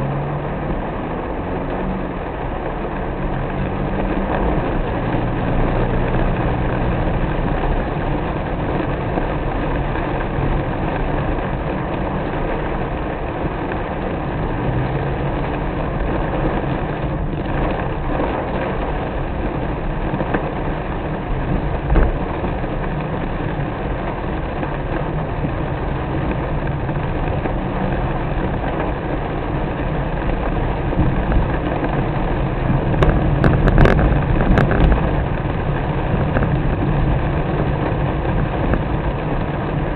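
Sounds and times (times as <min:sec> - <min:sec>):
car engine hum: 0:00.0 - 0:39.9
road and rain noise: 0:00.0 - 0:39.9.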